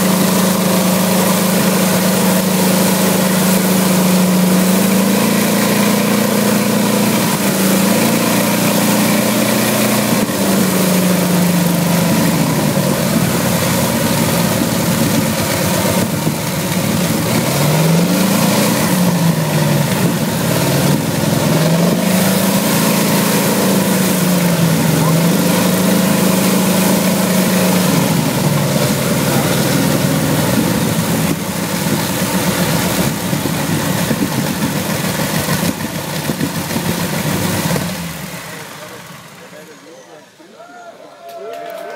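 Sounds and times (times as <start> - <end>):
radial aircraft engine revving: 0.0 - 40.0.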